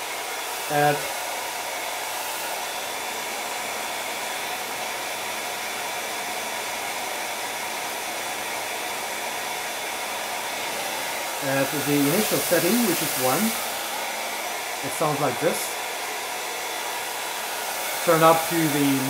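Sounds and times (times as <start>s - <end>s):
hair dryer blowing air: 0.0s - 19.0s.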